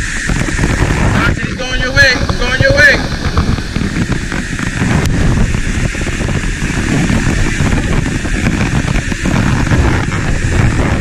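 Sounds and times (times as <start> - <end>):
water rushing over spillway: 0.0 - 11.0
wind buffeting microphone: 0.0 - 11.0.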